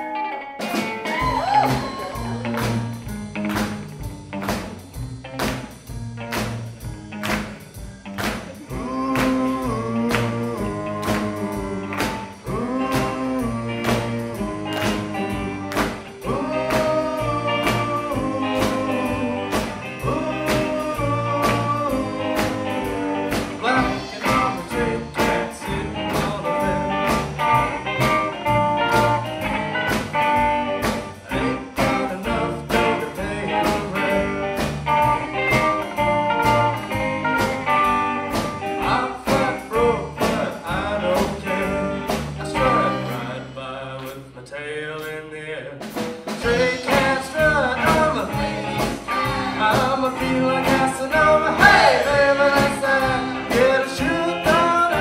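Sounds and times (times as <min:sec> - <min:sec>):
rockabilly band playing: 0:00.0 - 0:55.0
steady drum beat: 0:00.6 - 0:43.4, 0:45.8 - 0:55.0.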